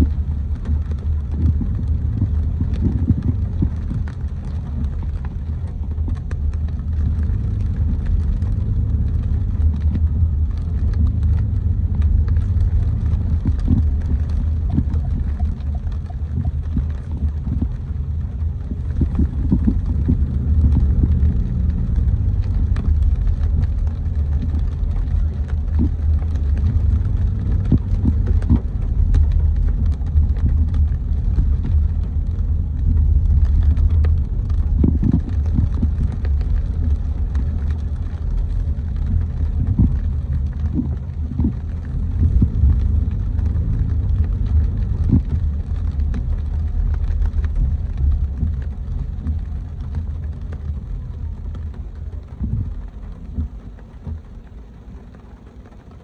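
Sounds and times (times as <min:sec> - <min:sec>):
car driving on wet street: 0:00.0 - 0:56.0.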